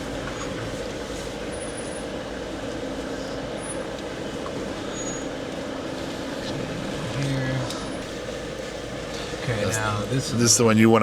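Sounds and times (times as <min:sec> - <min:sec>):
road rumble: 0:00.0 - 0:11.0
vehicle engine humming: 0:00.0 - 0:11.0.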